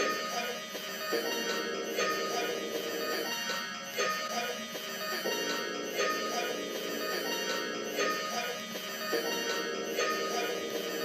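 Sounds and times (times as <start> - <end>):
electronic music with held tones: 0.0 - 11.0.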